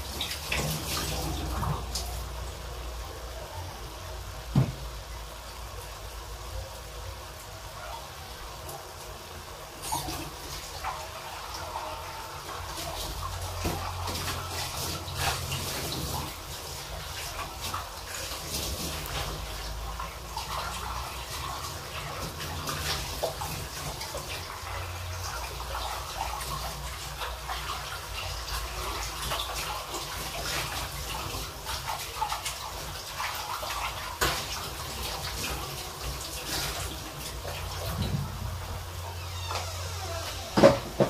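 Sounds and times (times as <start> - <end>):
broth bubbling and crackling: 0.0 - 41.0.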